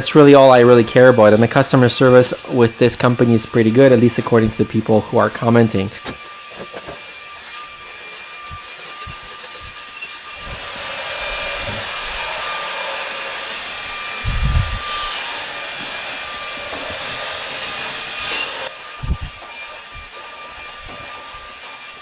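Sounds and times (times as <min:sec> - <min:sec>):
stick vacuum running: 0:00.0 - 0:22.0.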